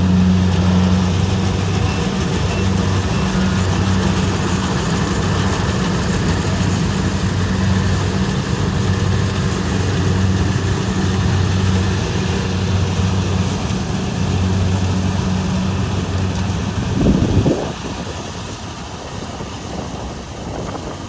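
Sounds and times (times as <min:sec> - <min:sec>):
combine harvester engine drone: 0:00.0 - 0:21.0
mechanical rush: 0:00.0 - 0:21.0.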